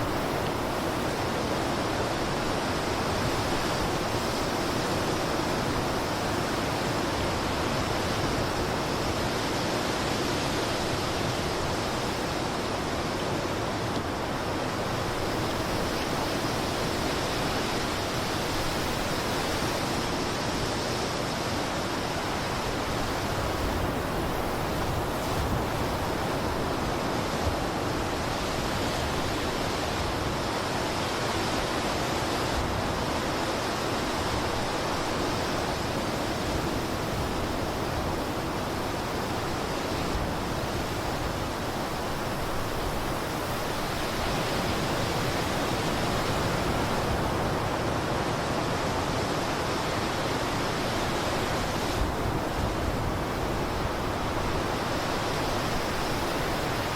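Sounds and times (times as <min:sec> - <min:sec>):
blizzard wind blowing: 0:00.0 - 0:56.9.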